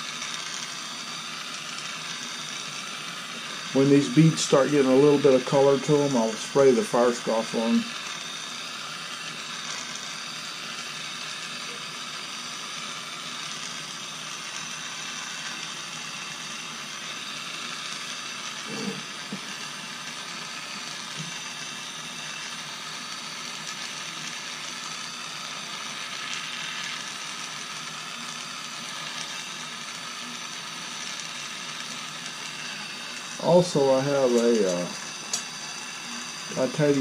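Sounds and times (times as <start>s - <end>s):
gas torch hissing: 0.0s - 37.0s.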